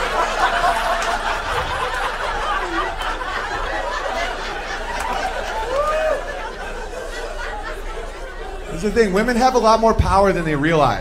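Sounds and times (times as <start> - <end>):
audience laughing: 0.0 - 11.0.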